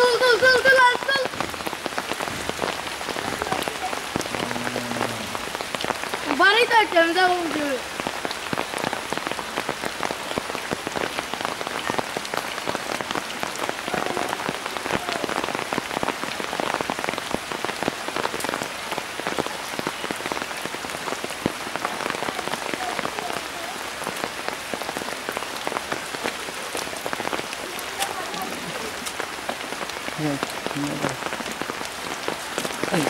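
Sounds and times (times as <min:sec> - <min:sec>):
rain falling on water: 0:00.0 - 0:33.0.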